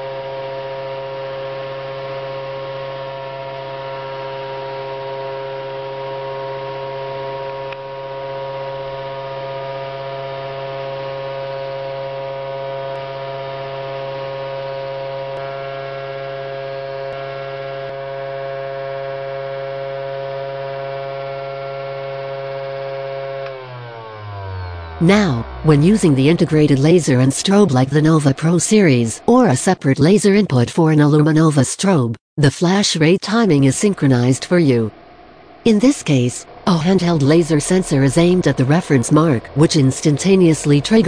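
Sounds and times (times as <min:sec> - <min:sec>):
electric motor whine: 0:00.0 - 0:27.3, 0:34.9 - 0:41.0
low hum: 0:00.0 - 0:30.4, 0:33.3 - 0:41.0.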